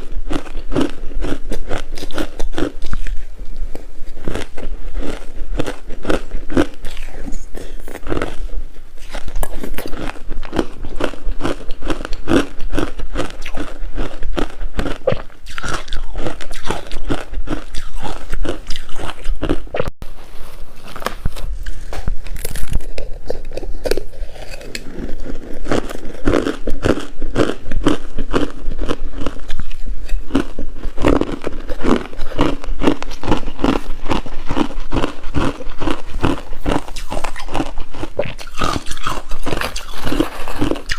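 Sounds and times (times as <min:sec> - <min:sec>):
ice being chewed: 0:00.0 - 0:19.9, 0:20.9 - 0:40.9.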